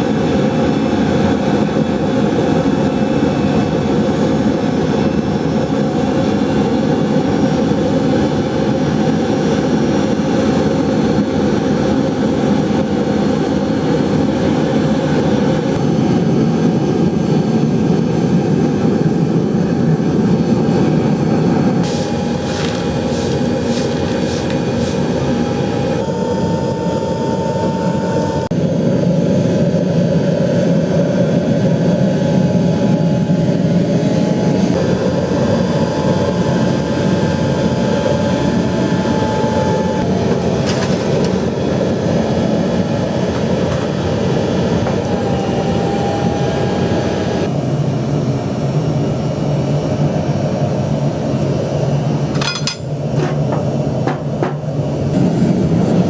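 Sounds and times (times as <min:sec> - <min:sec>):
furnace burner roaring: 0:00.0 - 0:56.0.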